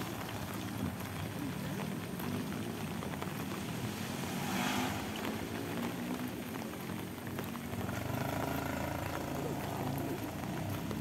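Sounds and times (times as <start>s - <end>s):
rain hissing on pavement: 0.0s - 11.0s.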